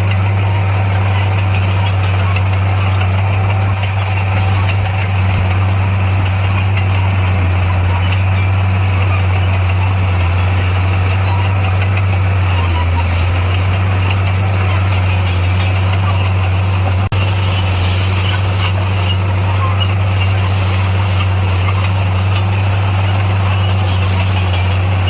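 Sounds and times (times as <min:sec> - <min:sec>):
diesel engine low drone: 0:00.0 - 0:25.0.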